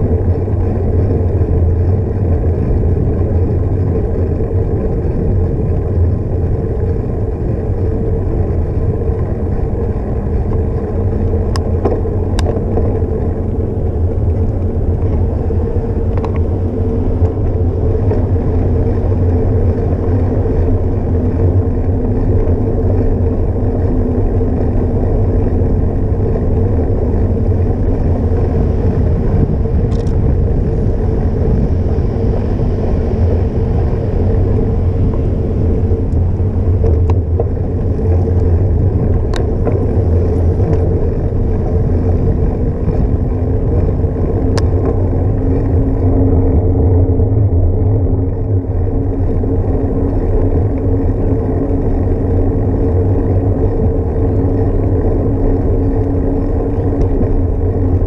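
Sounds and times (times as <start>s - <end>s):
bike tyres rolling on pavement: 0.0s - 58.0s
wind rumble on microphone: 0.0s - 58.0s.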